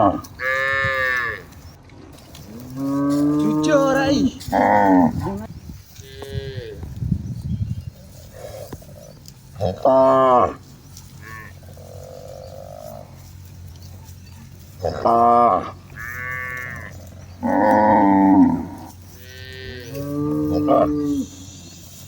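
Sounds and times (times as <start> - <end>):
cattle mooing: 0.0 - 1.6, 2.4 - 6.9, 8.2 - 13.5, 14.6 - 21.8.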